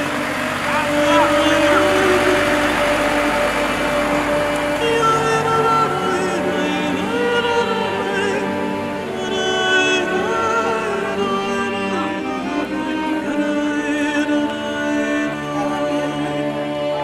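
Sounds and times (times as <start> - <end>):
song with sustained instruments: 0.0 - 17.0.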